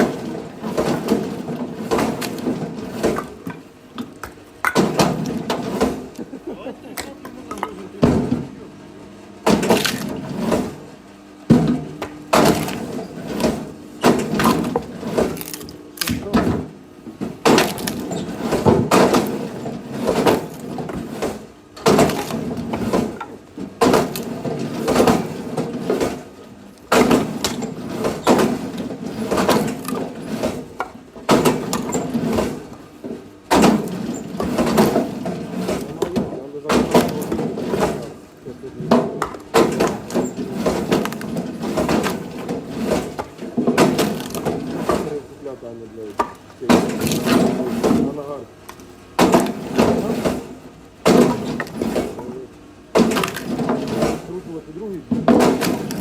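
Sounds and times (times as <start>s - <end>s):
firewood splitting cracks: 0.0s - 7.8s, 9.4s - 10.8s, 11.5s - 38.2s, 38.8s - 45.4s, 46.1s - 54.4s, 55.1s - 56.0s.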